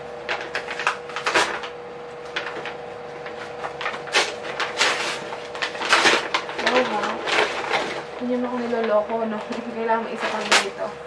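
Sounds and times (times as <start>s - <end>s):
paper gift bag rustling: 0.3s - 10.9s.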